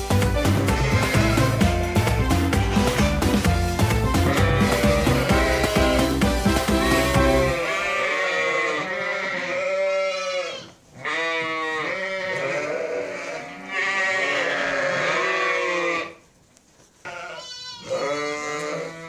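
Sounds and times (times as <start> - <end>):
sheep bleating: 0.5 - 3.3, 4.1 - 16.2, 17.0 - 19.0.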